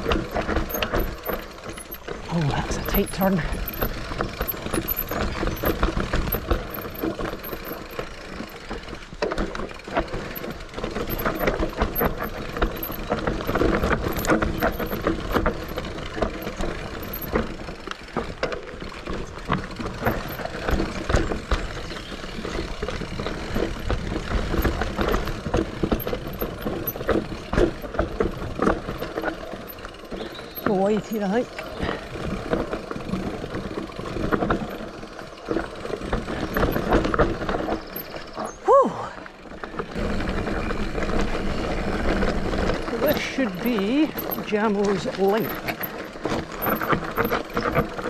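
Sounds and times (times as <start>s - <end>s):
chain and frame rattling: 0.0s - 38.6s, 39.5s - 48.0s
bike tyres rolling on dirt: 0.0s - 48.0s.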